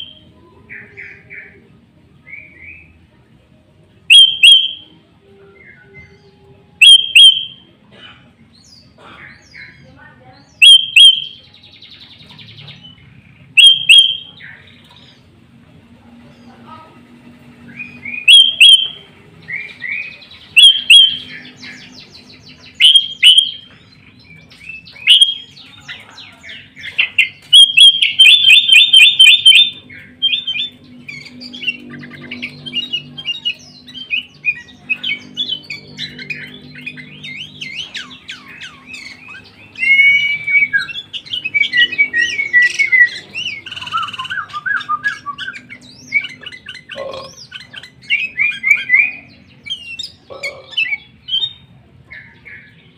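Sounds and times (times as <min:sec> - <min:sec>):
bird singing: 0:00.0 - 0:03.0, 0:04.0 - 0:07.7, 0:08.5 - 0:15.4, 0:16.2 - 0:52.9.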